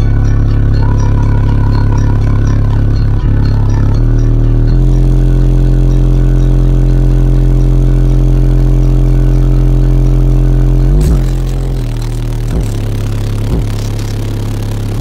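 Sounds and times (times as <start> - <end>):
loud deep subwoofer bass note: 0.0 - 15.0.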